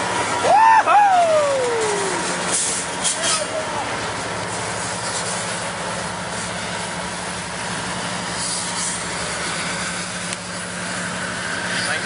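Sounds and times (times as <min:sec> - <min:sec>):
locomotive engine humming: 0:00.0 - 0:12.0.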